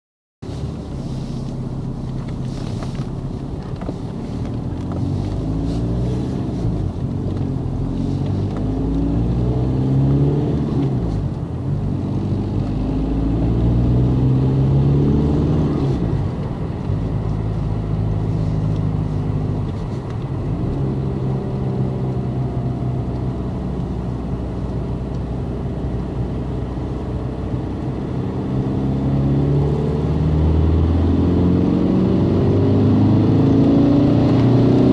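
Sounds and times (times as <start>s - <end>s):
car engine accelerating: 0.4s - 34.9s.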